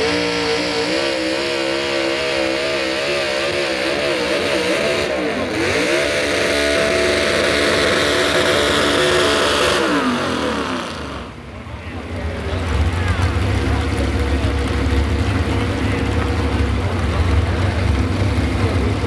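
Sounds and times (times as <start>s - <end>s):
truck engine revving under load: 0.0s - 11.6s, 12.4s - 19.0s.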